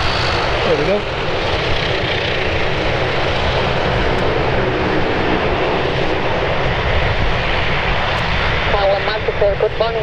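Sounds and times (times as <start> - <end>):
turboprop engines droning: 0.0 - 10.0.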